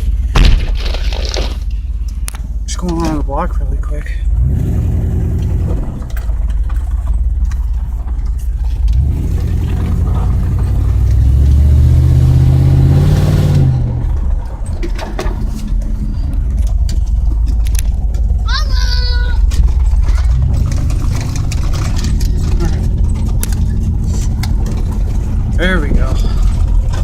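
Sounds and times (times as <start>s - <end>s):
truck engine accelerating: 0.0s - 27.0s.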